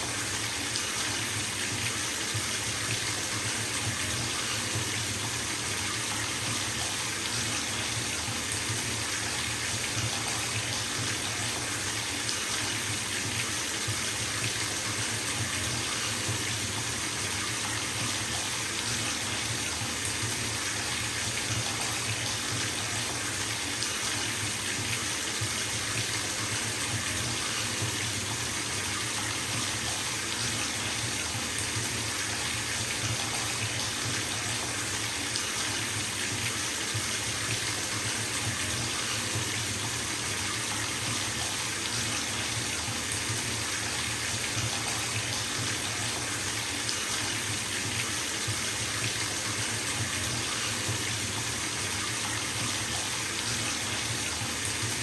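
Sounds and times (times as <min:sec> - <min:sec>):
water pouring into bathtub: 0:00.0 - 0:55.0.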